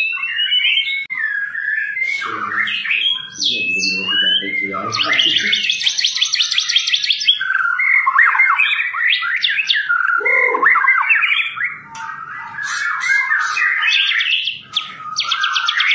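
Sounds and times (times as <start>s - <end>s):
bird singing whistled song: 0.0s - 15.9s.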